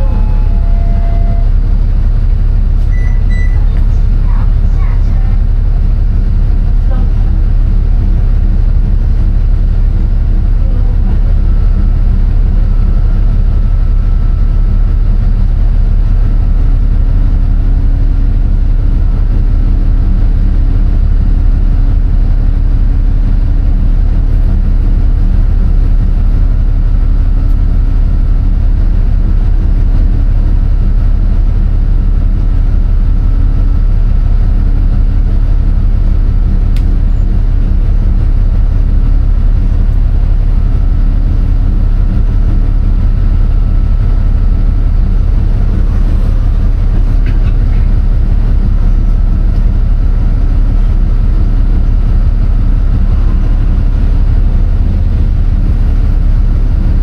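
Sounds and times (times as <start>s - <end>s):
faint hum: 0.0s - 22.7s, 32.5s - 57.0s
engine loud low drone: 0.0s - 57.0s.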